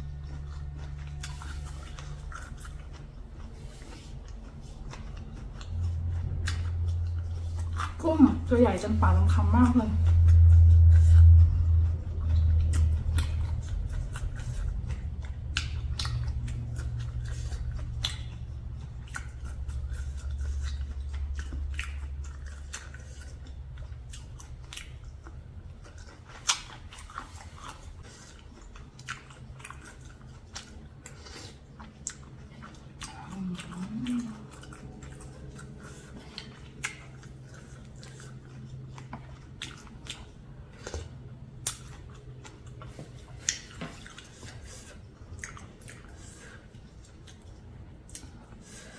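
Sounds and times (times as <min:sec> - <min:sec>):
steady low hum: 0:00.0 - 0:48.9
wet chewing with crunches: 0:00.0 - 0:48.9.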